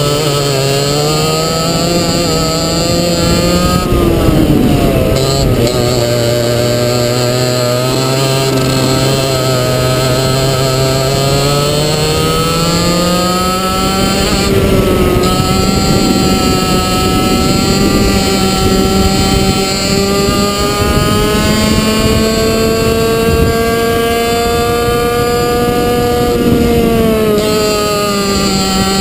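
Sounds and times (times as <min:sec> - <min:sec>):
kart engine accelerating: 0:00.0 - 0:29.0.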